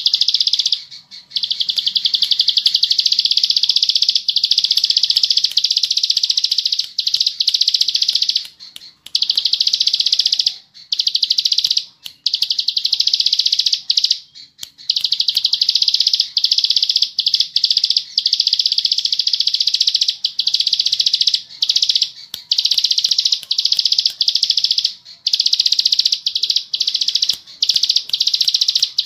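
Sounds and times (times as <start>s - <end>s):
bird singing buzzing trills: 0.0s - 29.0s.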